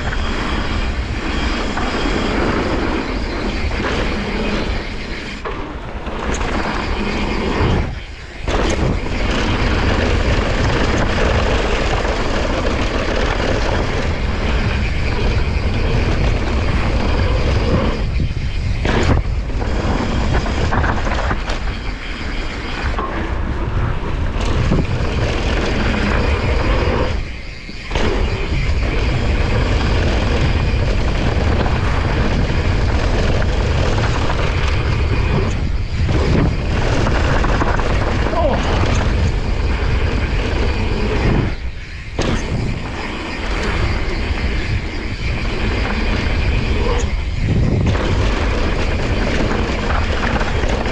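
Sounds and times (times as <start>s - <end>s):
bike tyres rolling over dirt: 0.0s - 50.9s
wind rushing over microphone: 0.0s - 50.9s.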